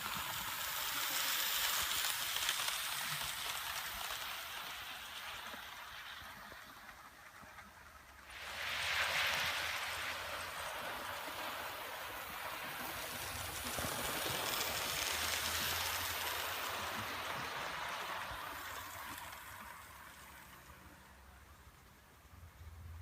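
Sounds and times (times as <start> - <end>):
model train wheels rattling on rail: 0.0 - 21.8.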